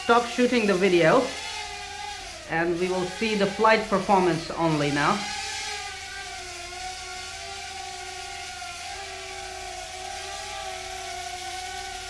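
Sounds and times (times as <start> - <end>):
quadcopter motors buzzing: 0.0 - 12.0.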